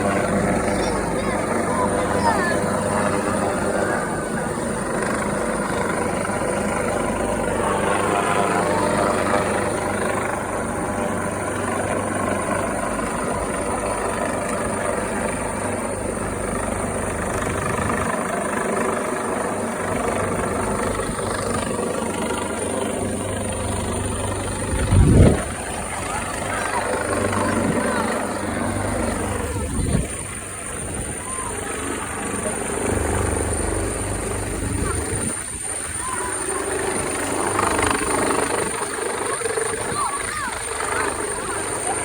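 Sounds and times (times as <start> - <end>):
helicopter drone: 0.0 - 42.0.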